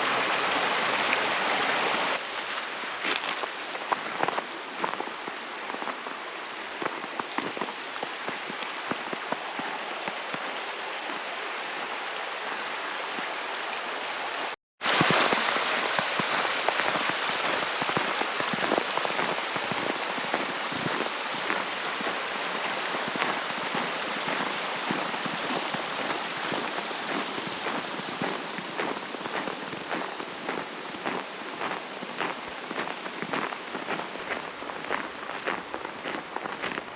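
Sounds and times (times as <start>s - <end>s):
patter of falling precipitation: 0.0s - 36.9s.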